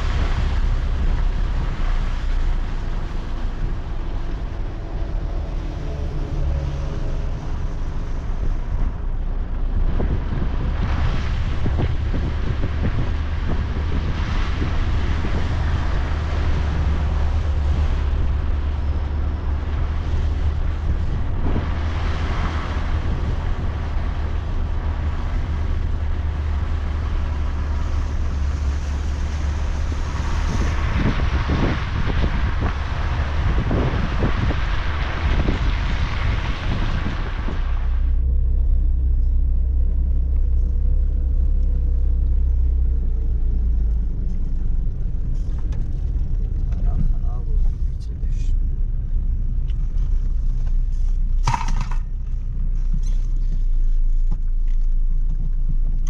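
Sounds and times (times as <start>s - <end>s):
car engine low rumble: 0.0s - 56.0s
wind noise: 0.0s - 56.0s.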